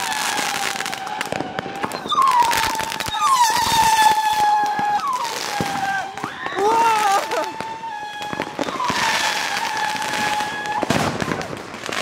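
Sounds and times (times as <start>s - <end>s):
fireworks crackling and cracking: 0.0s - 12.0s
fireworks whistling: 0.0s - 12.0s.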